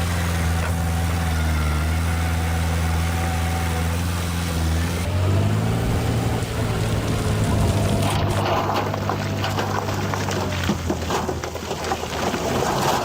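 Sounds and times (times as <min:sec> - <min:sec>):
heavy diesel engine revving: 0:00.0 - 0:10.7.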